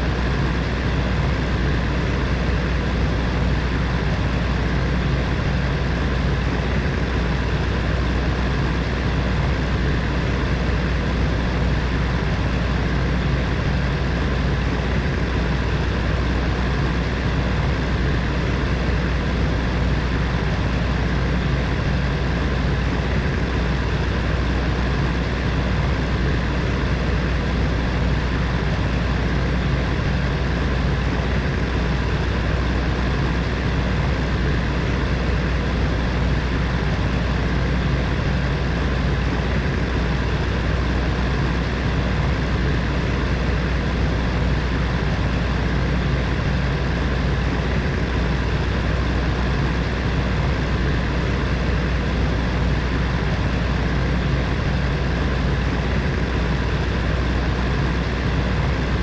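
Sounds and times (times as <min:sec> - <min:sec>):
heater fan running: 0:00.0 - 0:59.0.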